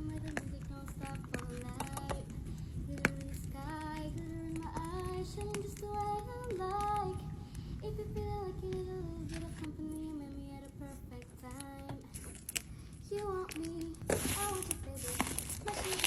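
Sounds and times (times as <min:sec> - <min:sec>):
high voice singing slow melody: 0:00.0 - 0:12.3, 0:13.0 - 0:16.0
steady low rumble: 0:00.0 - 0:16.0.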